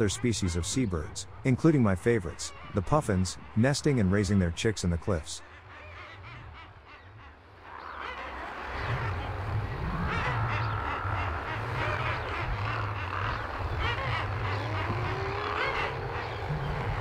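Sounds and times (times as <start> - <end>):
seabirds crying: 0.0 - 17.0.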